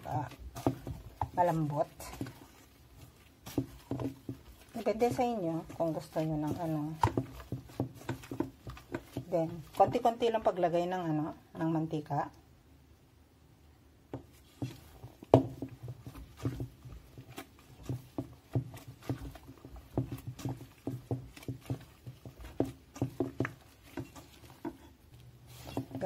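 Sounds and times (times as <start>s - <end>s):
dough slapping and squelching: 0.0s - 11.4s, 14.1s - 26.0s.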